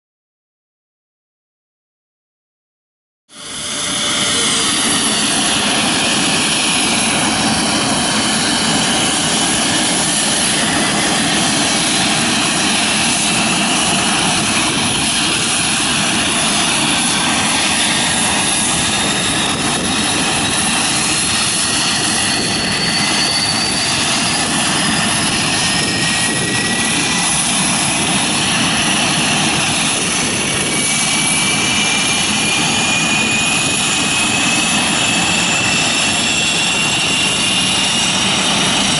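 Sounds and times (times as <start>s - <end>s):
turboprop engines running: 3.3s - 38.9s.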